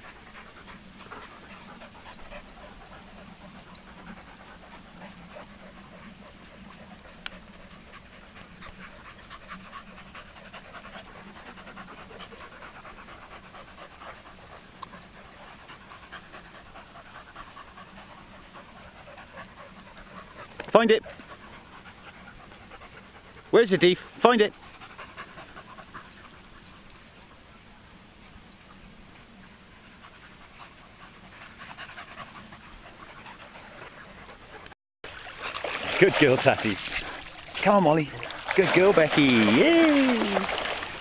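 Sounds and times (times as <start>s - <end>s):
dog panting: 0.0s - 27.6s, 28.7s - 40.8s.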